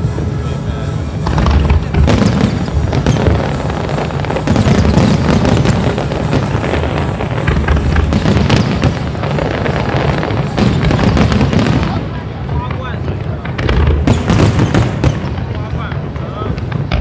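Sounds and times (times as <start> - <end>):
fireworks crackling: 0.0 - 17.0
firework shells booming: 1.1 - 17.0.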